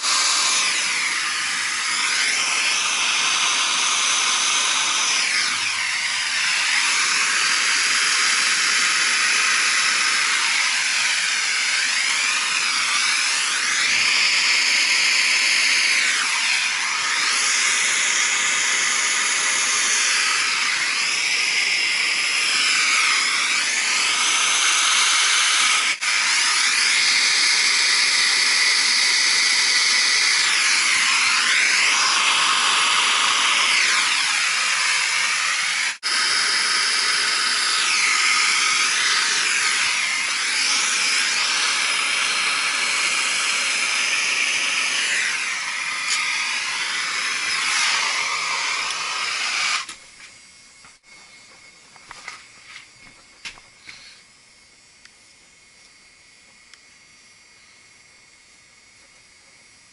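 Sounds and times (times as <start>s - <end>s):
loud steady hissing: 0.0s - 59.9s.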